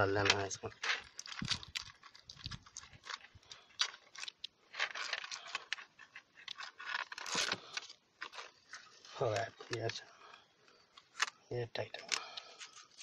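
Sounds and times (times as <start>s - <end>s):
strap rustling and scraping on plastic: 0.0s - 11.4s, 12.0s - 13.0s.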